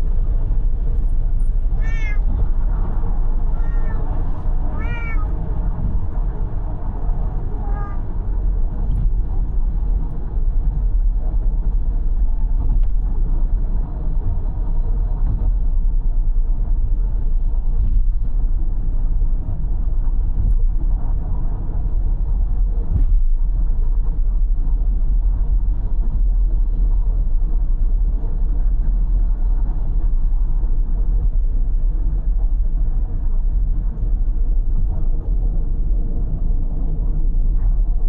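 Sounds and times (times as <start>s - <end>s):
car interior road noise: 0.0s - 38.0s.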